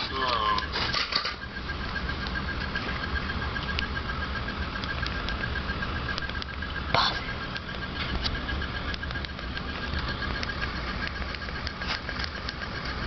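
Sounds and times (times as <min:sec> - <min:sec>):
faint pulsing high tone: 0:00.0 - 0:13.0
steady low hum: 0:00.0 - 0:13.0.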